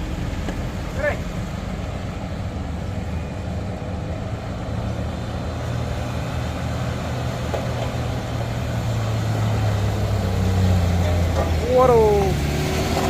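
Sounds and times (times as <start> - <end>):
heavy vehicle engine humming: 0.0 - 13.0.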